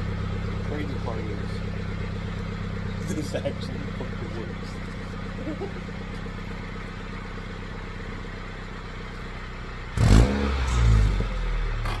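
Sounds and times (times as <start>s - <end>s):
car exhaust idling and revving: 0.0s - 12.0s.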